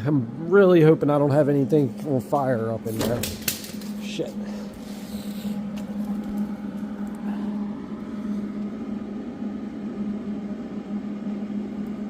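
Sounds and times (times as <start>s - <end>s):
machine hum: 0.0s - 12.0s
rough noisy drone: 0.0s - 12.0s.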